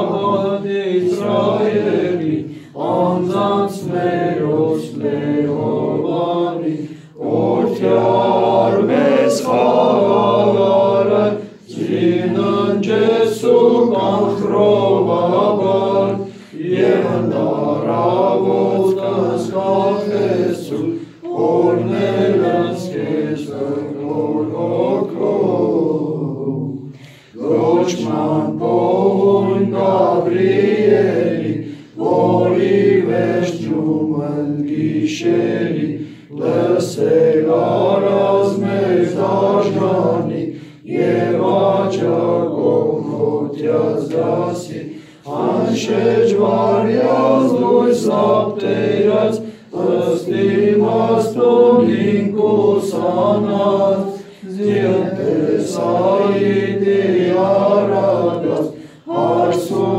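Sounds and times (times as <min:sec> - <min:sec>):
voices chanting a hymn: 0:00.0 - 0:59.9.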